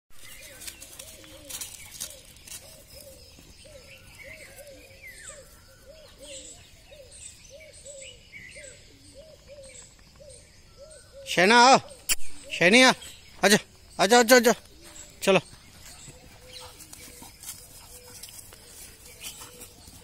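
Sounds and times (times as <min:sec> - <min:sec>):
birds chirping higher: 0:00.1 - 0:20.0
bird calling with low arched notes: 0:00.2 - 0:20.0.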